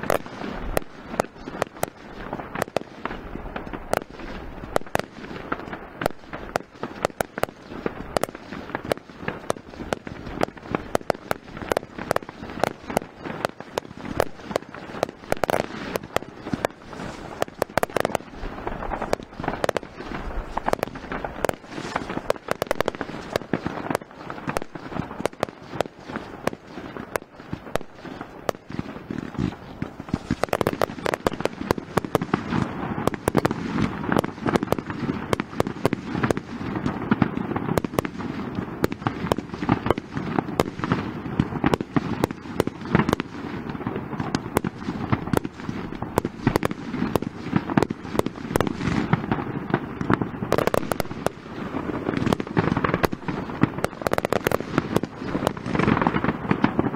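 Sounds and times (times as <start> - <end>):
fireworks popping and banging: 0.0 - 56.9.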